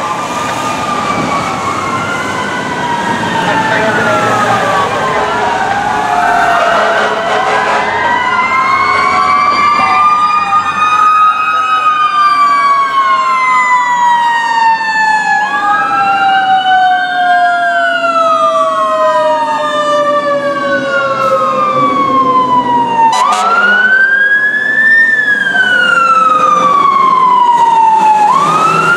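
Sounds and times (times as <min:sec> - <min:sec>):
electronic wail siren: 0:00.0 - 0:28.9.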